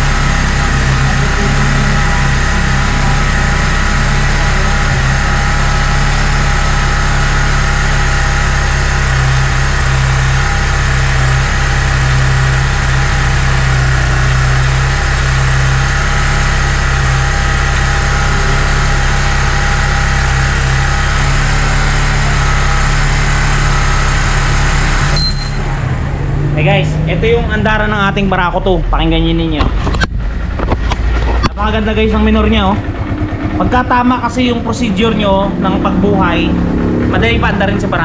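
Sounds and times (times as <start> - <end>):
motorcycle engine idling: 0.0 - 26.2, 30.1 - 38.0.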